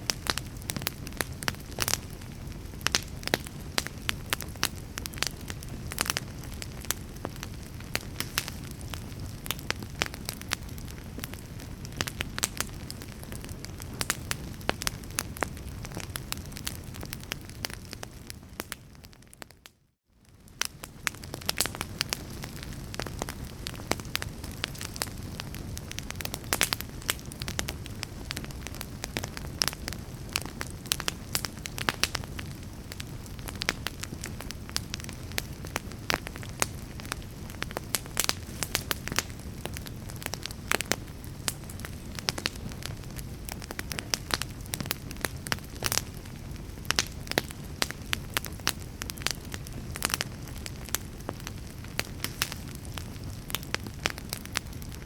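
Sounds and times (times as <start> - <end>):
fire crackling and popping: 0.0 - 55.0
low rumble and hiss of burning: 0.0 - 55.0.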